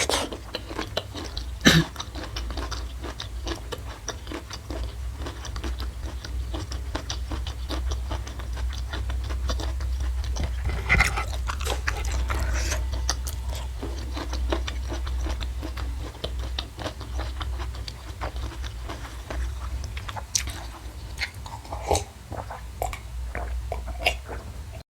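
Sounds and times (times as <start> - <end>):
person chewing and crunching food: 0.0 - 24.8
steady low hum: 0.0 - 24.8.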